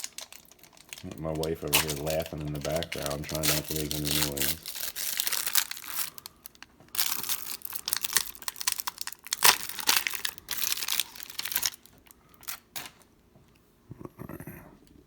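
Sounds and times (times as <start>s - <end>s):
plastic wrapper crinkling and tearing: 0.0s - 13.1s.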